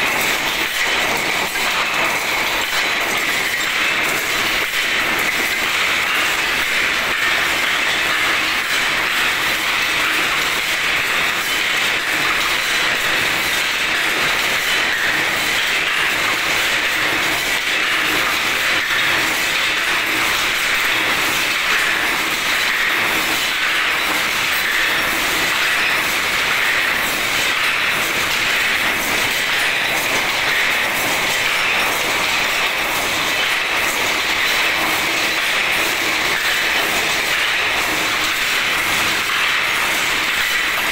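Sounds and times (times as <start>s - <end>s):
wire mesh machine clattering: 0.0s - 40.9s.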